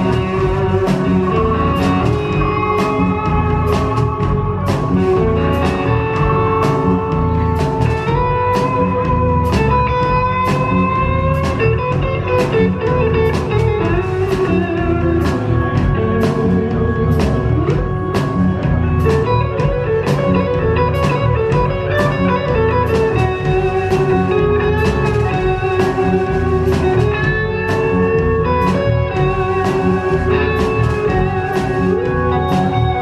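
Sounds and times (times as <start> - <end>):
bass: 0.0 - 33.0
drums: 0.0 - 33.0
electric lead guitar: 0.0 - 33.0.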